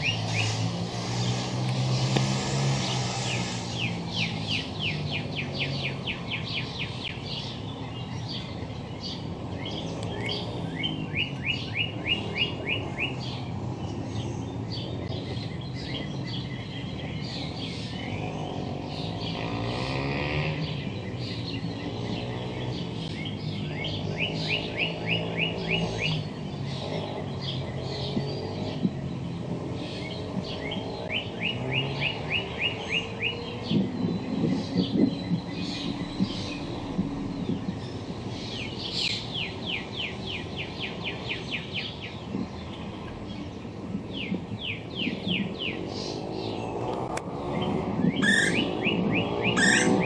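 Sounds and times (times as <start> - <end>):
songbirds trilling: 0.0 - 50.0.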